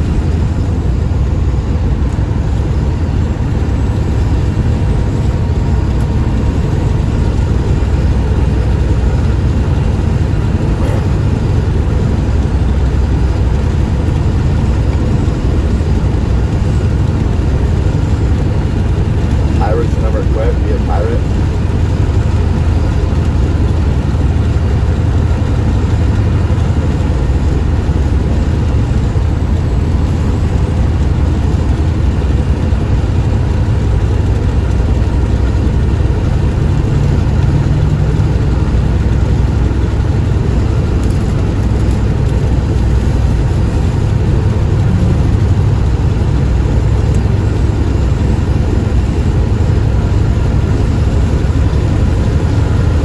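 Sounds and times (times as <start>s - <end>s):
road noise: 0.0s - 53.0s
truck engine rumbling: 0.0s - 53.0s.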